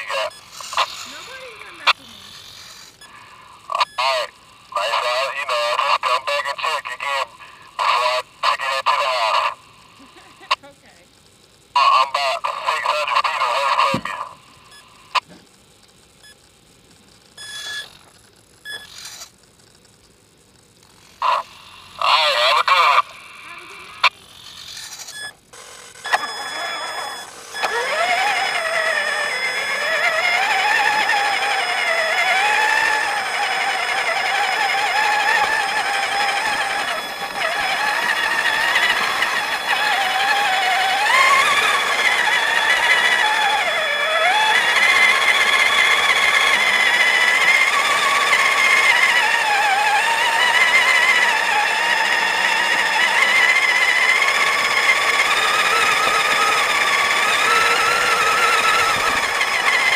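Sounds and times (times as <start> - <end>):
toy truck motor whining: 0.0 - 15.4, 16.2 - 20.0, 20.6 - 59.9.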